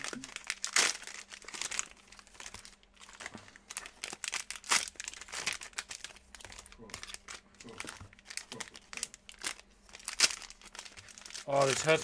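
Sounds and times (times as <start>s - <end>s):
plastic wrappers crinkling and tearing: 0.0s - 12.0s.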